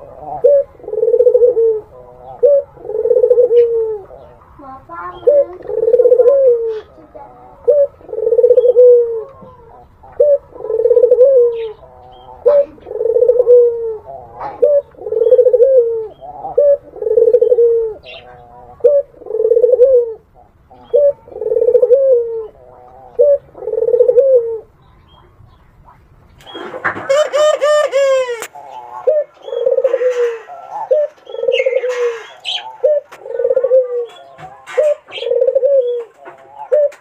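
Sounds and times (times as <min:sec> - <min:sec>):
dove cooing: 0:00.0 - 0:25.4, 0:26.4 - 0:37.0.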